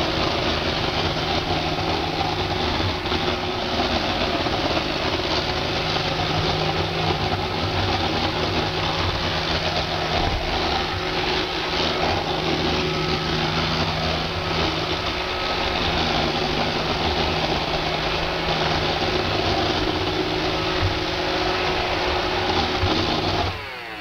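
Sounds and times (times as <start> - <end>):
robot vacuum whirring and rattling: 0.0 - 24.0.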